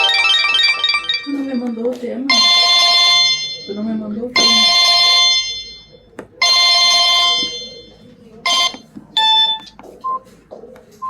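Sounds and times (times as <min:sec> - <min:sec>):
mobile phone ringtone: 0:00.0 - 0:09.8.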